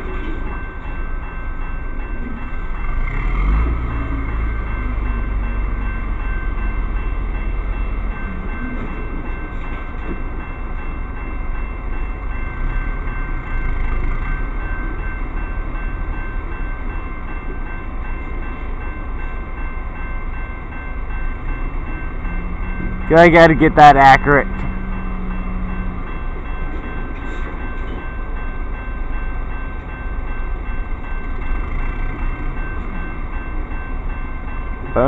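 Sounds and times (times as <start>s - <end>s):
crossing bell ringing: 0.0s - 35.0s.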